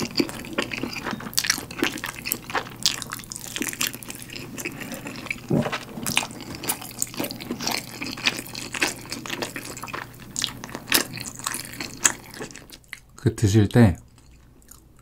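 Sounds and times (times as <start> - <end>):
chewing mouth clicks and smacks: 0.0 - 13.1.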